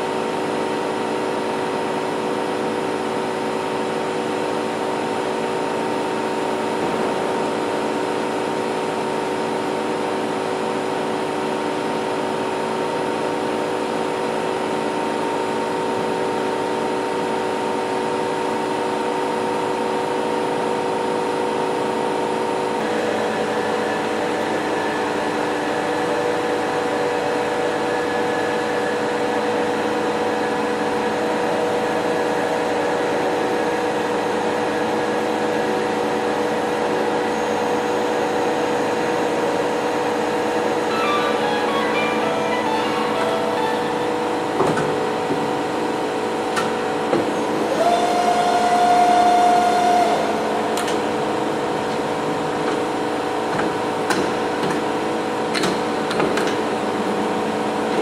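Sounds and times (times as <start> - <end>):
milling machine humming and whining: 0.0 - 58.0.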